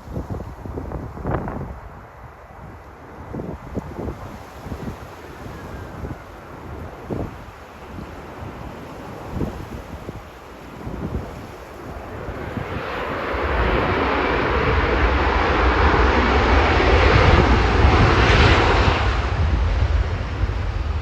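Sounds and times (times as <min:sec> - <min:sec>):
wind buffeting microphone: 0:00.0 - 0:21.0
airliner engines passing: 0:01.6 - 0:21.0.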